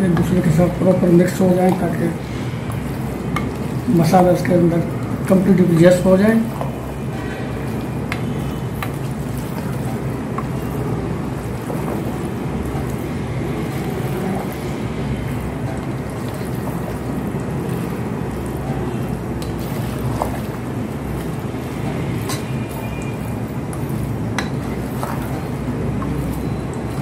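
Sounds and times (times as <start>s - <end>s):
spoon stirring in metal pot: 0.0s - 27.0s.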